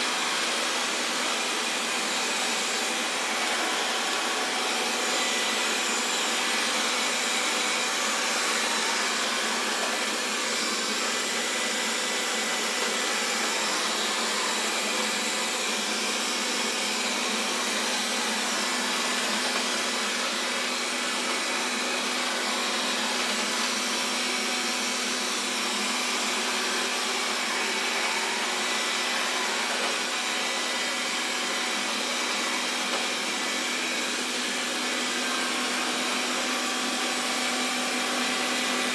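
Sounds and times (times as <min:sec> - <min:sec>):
robot vacuum whirring: 0:00.0 - 0:38.9.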